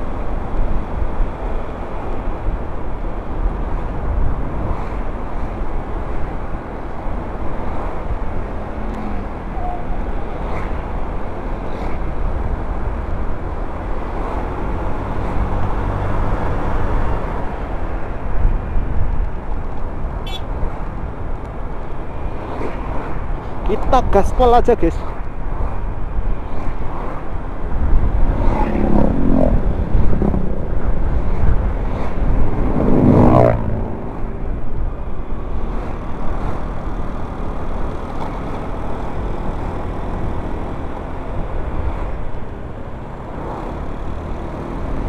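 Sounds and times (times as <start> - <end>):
road noise: 0.0 - 45.0
wind rushing over microphone: 0.0 - 45.0.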